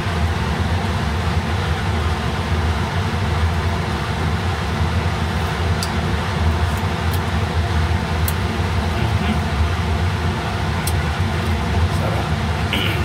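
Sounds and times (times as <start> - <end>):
fan-like rush with low hum: 0.0 - 13.0.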